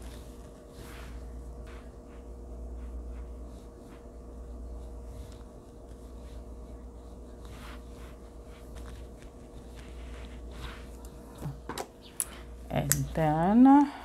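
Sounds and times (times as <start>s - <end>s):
faint rustling: 0.0s - 11.7s
steady low hum: 0.0s - 14.0s.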